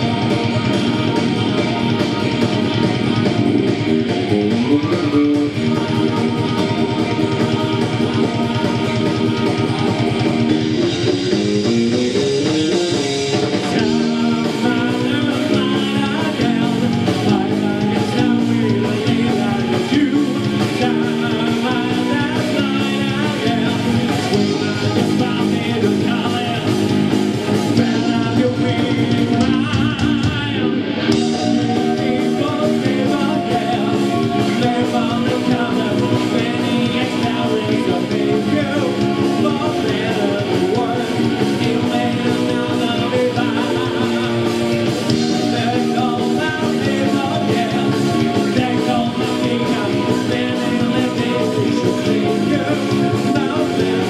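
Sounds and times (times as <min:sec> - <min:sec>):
heavy metal band playing: 0:00.0 - 0:54.0
man singing: 0:00.0 - 0:54.0.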